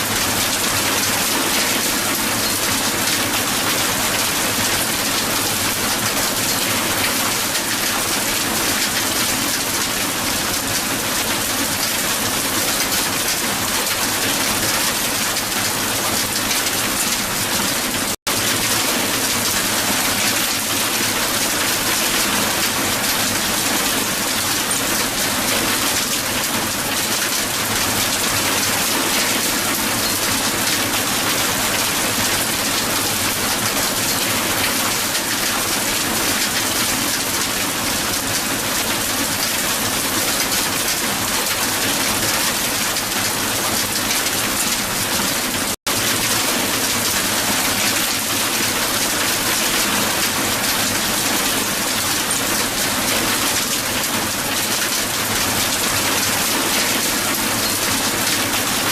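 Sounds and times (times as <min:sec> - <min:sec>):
heavy hail falling on ground: 0:00.0 - 0:58.9.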